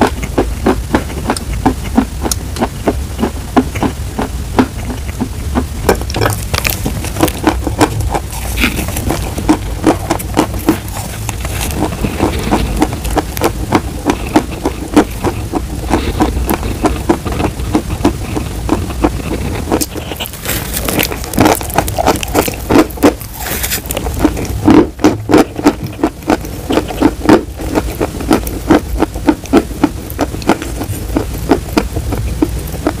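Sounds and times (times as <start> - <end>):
chewing chalk crunches: 0.0 - 33.0.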